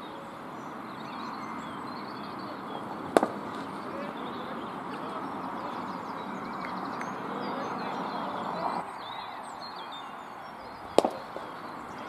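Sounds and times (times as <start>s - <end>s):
outdoor background hiss: 0.0s - 12.0s
small birds chirping: 0.0s - 12.0s.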